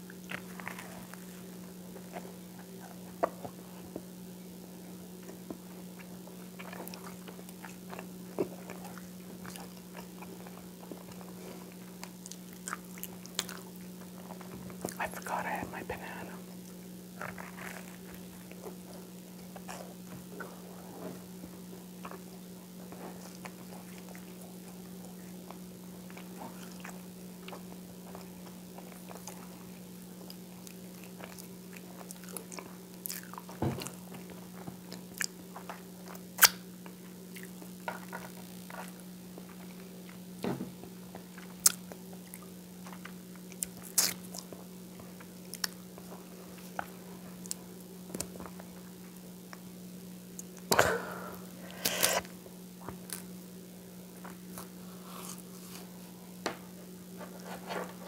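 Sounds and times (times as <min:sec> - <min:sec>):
chewing toast: 0:00.0 - 0:04.1, 0:05.2 - 0:20.6, 0:21.7 - 0:40.3, 0:41.1 - 0:49.6.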